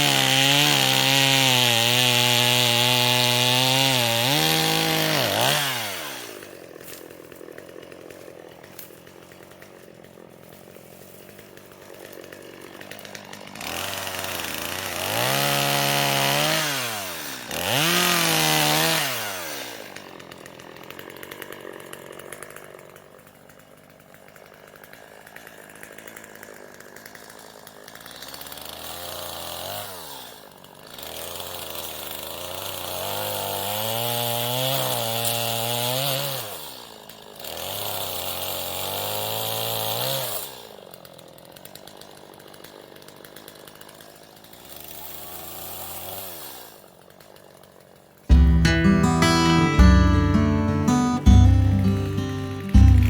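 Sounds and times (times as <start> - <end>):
chainsaw idling and revving: 0.0 - 53.0.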